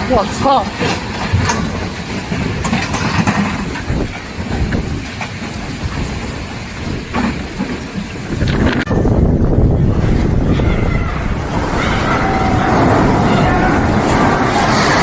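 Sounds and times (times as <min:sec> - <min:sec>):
strong wind gusting: 0:00.0 - 0:15.0
blown objects clattering: 0:00.7 - 0:15.0.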